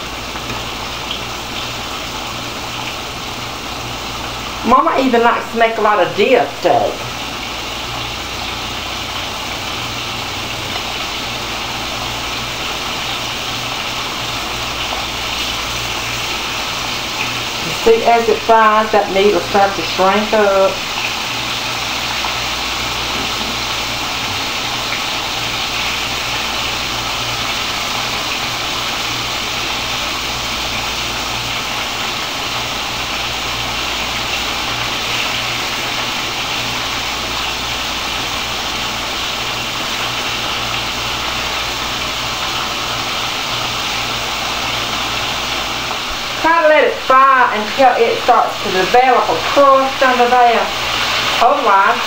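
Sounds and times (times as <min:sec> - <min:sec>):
steak sizzling in hot oil: 0:00.0 - 0:52.0.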